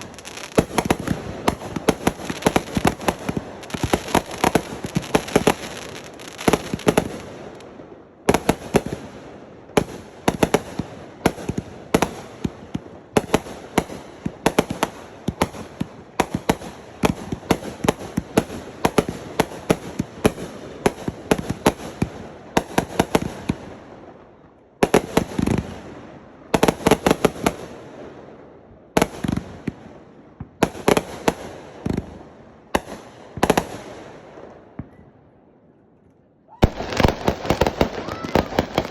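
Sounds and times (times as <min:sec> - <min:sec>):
fireworks bangs: 0:00.0 - 0:35.2, 0:36.5 - 0:38.9.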